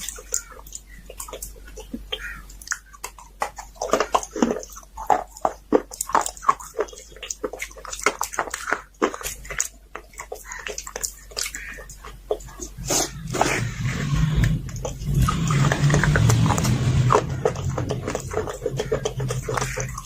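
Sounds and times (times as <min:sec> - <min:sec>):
slate pencils crunching when chewed: 0:00.0 - 0:20.0.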